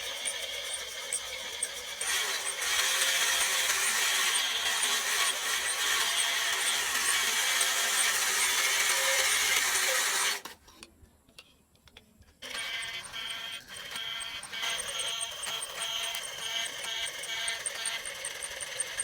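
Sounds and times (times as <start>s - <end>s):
power tool running: 0.0s - 10.5s, 12.4s - 19.0s.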